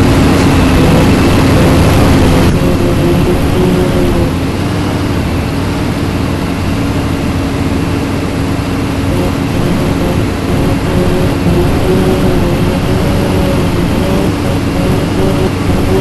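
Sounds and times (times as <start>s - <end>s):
bus diesel engine running: 0.0s - 16.0s
road and cabin noise: 0.0s - 16.0s.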